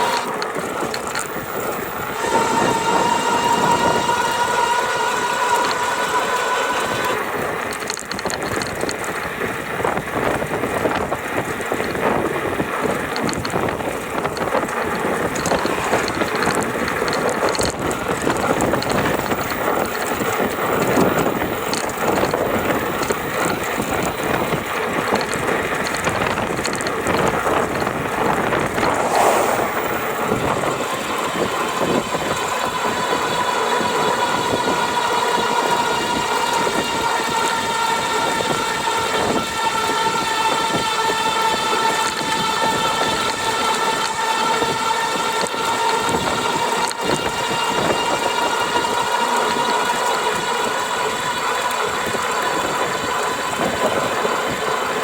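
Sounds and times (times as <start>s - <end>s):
high motor whine: 0.0s - 8.0s, 14.2s - 54.8s.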